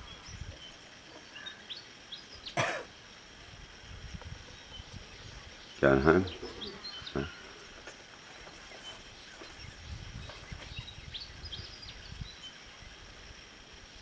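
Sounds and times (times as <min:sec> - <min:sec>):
faint bird chirps: 0:00.0 - 0:02.6, 0:04.4 - 0:13.1.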